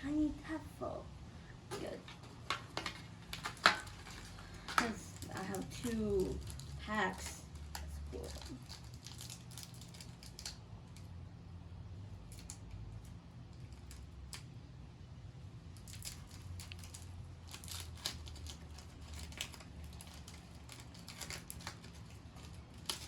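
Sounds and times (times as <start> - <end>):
low steady hum: 0.0 - 23.0
foil wrapper crinkling and tearing: 1.8 - 11.2, 12.2 - 14.6, 15.7 - 23.0.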